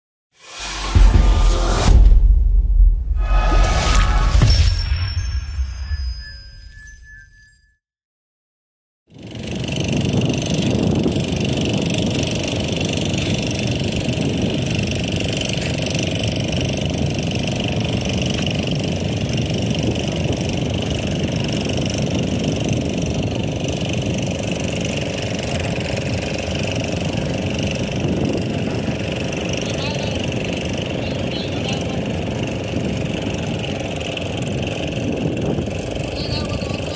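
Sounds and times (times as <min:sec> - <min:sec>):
engine drone: 0:00.4 - 0:07.4, 0:09.1 - 0:36.9.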